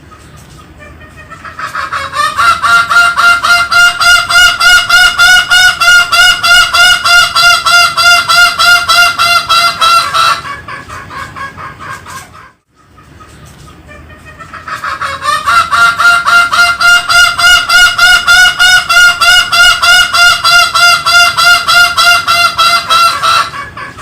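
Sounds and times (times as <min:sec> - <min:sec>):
junglefowl calling: 0:00.0 - 0:24.0.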